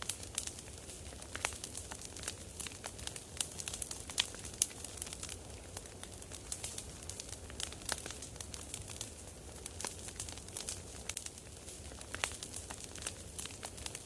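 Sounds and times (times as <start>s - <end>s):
campfire crackling: 0.0s - 14.0s
low rush of flame: 0.0s - 14.0s.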